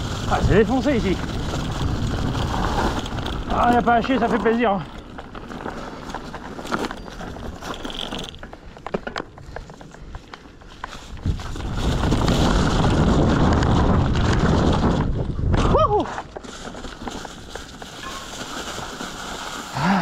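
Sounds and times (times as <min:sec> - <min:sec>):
wind and tyre noise: 0:00.0 - 0:20.0.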